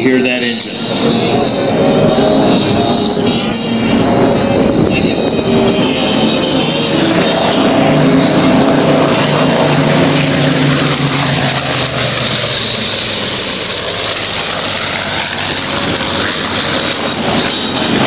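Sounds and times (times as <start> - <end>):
propeller planes flying by: 0.0 - 18.0.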